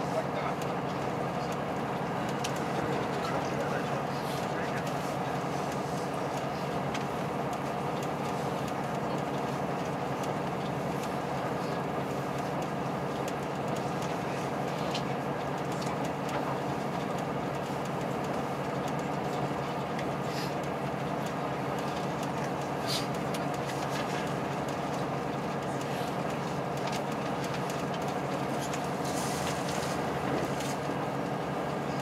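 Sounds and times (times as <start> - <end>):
train running on rails: 0.0 - 32.0.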